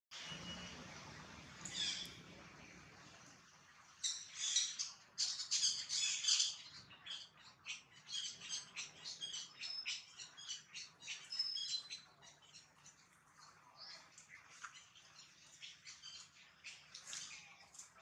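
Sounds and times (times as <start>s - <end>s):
birds chirping and squawking: 0.2s - 18.0s.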